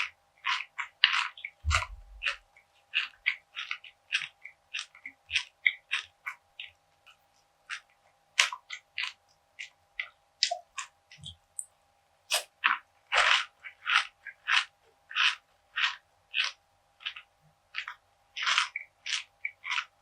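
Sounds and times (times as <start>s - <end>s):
chewing crunchy food: 0.0s - 11.6s, 12.3s - 20.0s.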